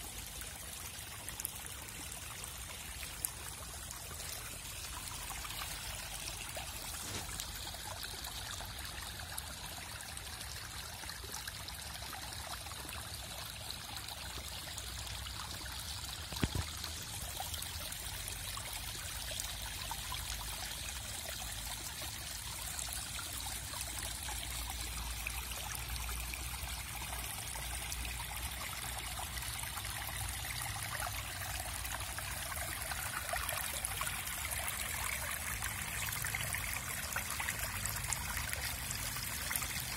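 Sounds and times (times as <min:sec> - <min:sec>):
rainwater running and trickling: 0:00.0 - 0:39.9.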